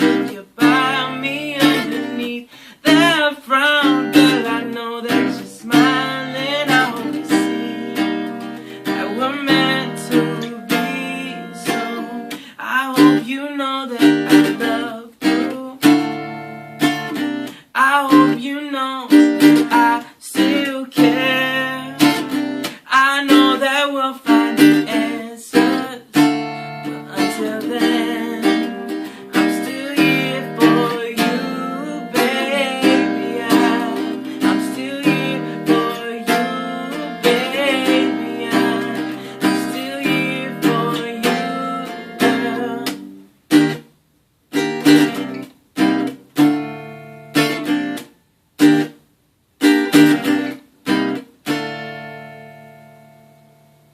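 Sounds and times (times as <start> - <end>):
acoustic guitar chords: 0.0 - 53.9.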